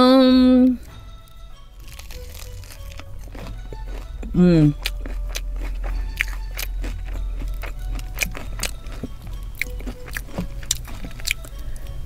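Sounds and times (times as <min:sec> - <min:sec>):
close chewing with crunches: 0:01.8 - 0:12.0.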